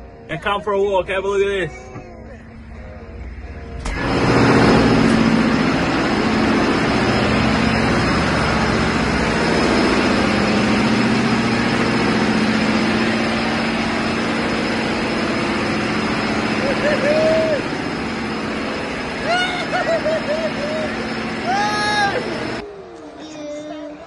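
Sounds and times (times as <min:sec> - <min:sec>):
heavy machinery roar: 0:02.4 - 0:24.0.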